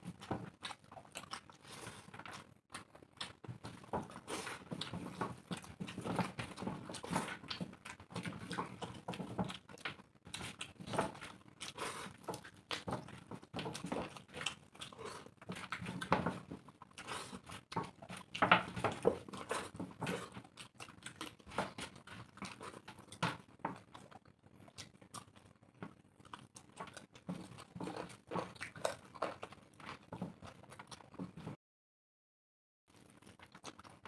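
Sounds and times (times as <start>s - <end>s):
chewing and wet smacking: 0.0s - 31.6s, 32.9s - 34.0s.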